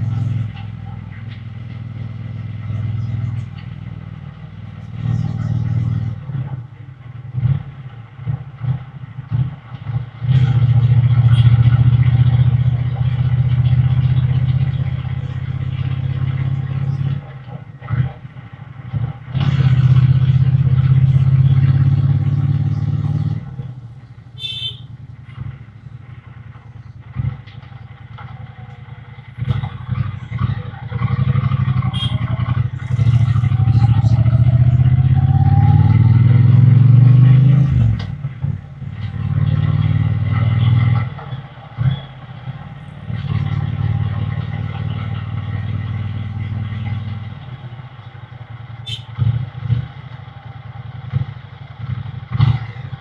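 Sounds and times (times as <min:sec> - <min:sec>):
motorcycle engine and exhaust: 0:00.0 - 0:53.0.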